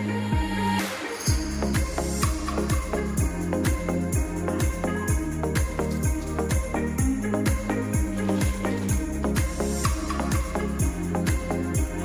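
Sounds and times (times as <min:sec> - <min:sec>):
sustained pitched notes: 0:00.0 - 0:12.0
deep kick drum: 0:00.3 - 0:00.7, 0:01.3 - 0:12.0.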